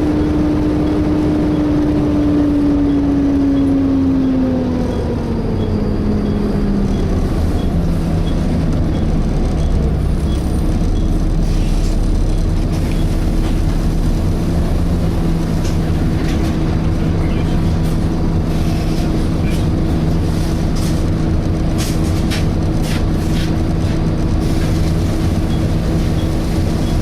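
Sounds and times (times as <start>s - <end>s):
bus engine drone: 0.0s - 27.0s.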